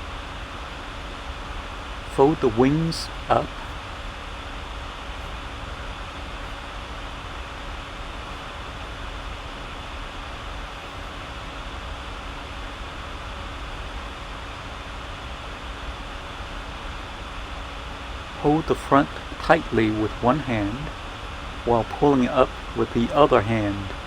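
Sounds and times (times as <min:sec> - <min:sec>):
faint even hum: 0:00.0 - 0:24.0
steady background hiss: 0:00.0 - 0:24.0.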